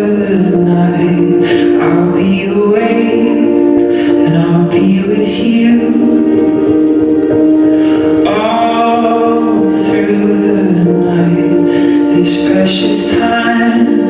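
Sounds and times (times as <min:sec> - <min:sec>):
musical accompaniment: 0:00.0 - 0:14.0
voices holding long notes: 0:00.0 - 0:14.0.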